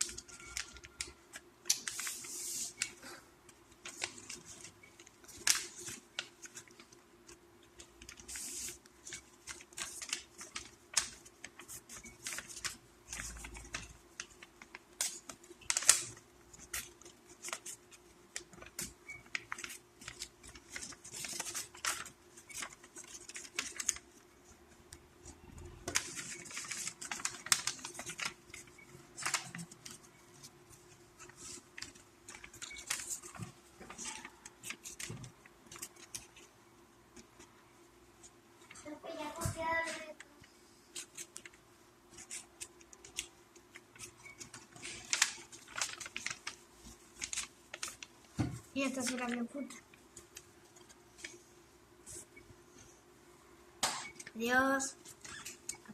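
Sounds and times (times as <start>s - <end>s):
paper rustling and crackling: 0.0s - 36.5s, 38.2s - 52.4s, 54.2s - 55.9s.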